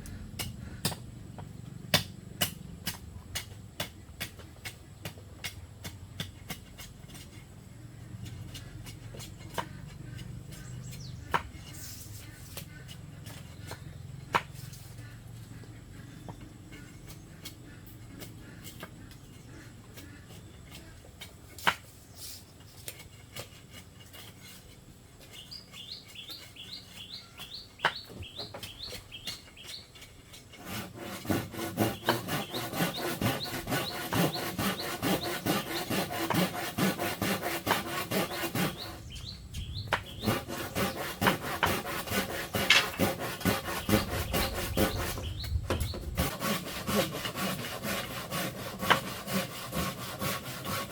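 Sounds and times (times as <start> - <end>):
hand saw cutting bamboo: 1.9 - 15.4, 16.0 - 50.9.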